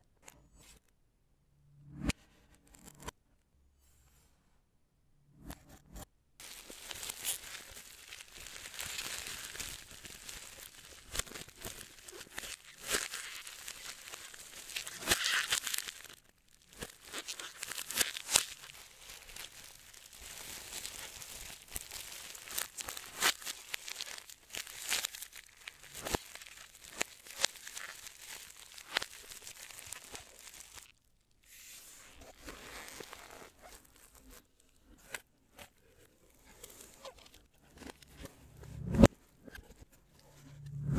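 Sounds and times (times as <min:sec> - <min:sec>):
wrapping crinkling and tearing: 0:06.4 - 0:40.9.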